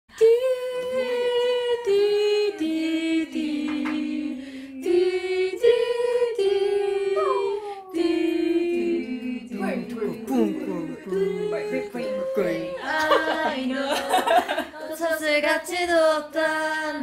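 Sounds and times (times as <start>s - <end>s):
women singing a cappella: 0.1s - 17.0s.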